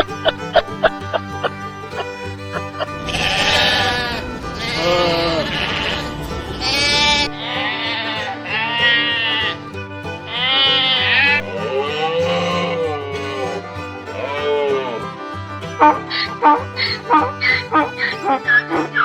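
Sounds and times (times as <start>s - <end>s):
background music: 0.0s - 19.0s
goats bleating: 0.0s - 19.0s.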